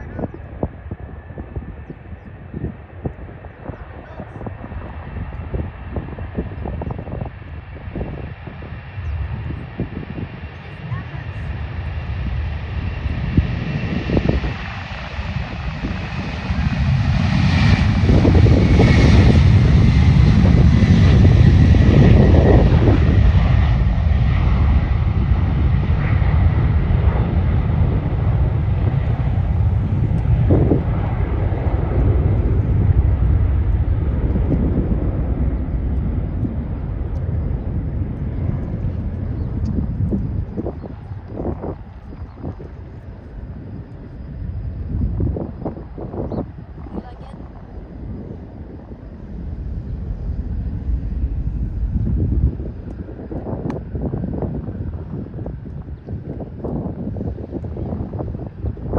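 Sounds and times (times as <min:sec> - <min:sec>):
jet engines roaring at takeoff: 0:00.0 - 0:58.9.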